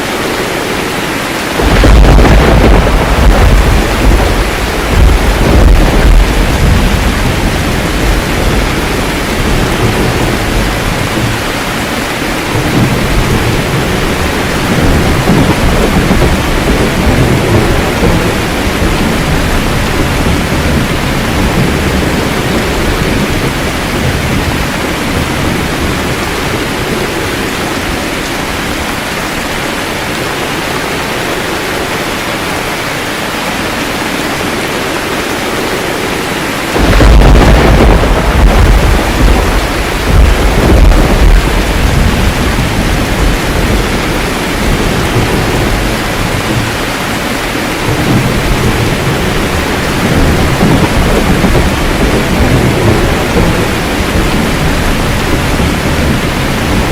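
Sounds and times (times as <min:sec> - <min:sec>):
rolling thunder rumbling: 0:00.0 - 0:32.7, 0:33.4 - 0:56.9
heavy rain: 0:00.0 - 0:56.9.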